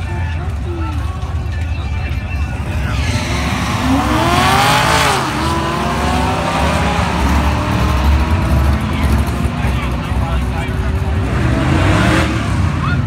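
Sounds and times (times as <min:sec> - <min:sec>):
drag racing car accelerating: 0:02.3 - 0:13.0.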